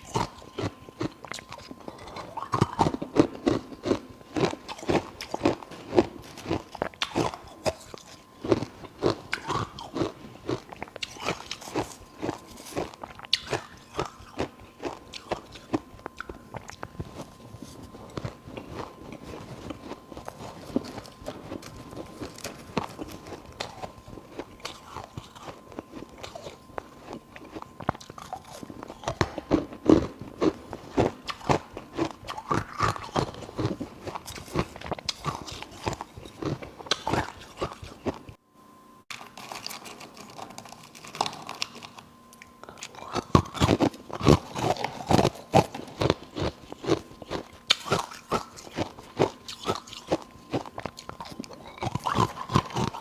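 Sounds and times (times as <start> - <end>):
person chewing ice: 0.0 - 38.4, 39.1 - 53.0.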